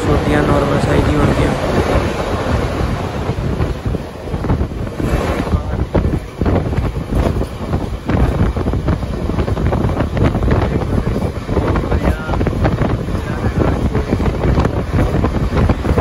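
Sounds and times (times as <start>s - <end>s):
train rumble: 0.0s - 16.0s
wind buffeting microphone: 0.0s - 16.0s
wheels clattering on rail: 2.4s - 16.0s.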